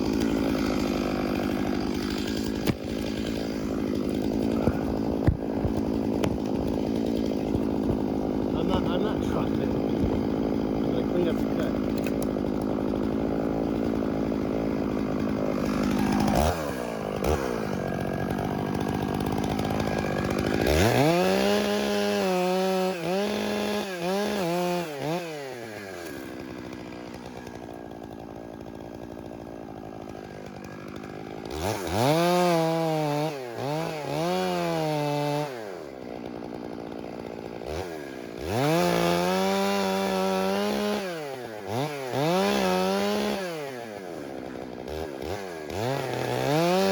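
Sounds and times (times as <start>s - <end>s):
chainsaw revving and idling: 0.0s - 46.9s.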